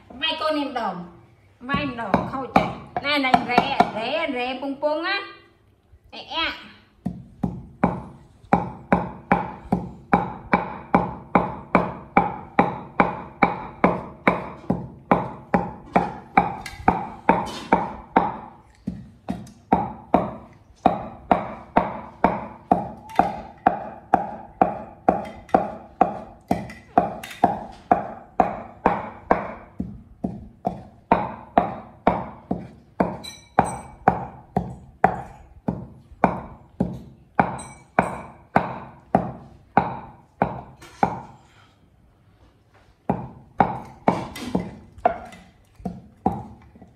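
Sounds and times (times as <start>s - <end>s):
wooden pestle pounding in mortar: 1.7s - 4.0s, 7.0s - 41.4s, 43.0s - 46.9s.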